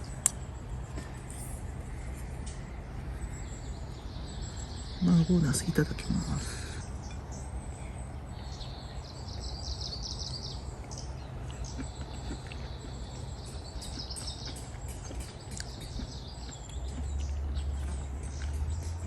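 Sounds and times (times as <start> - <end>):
birds chirping: 0.0 - 19.0
low background rumble: 0.0 - 19.0.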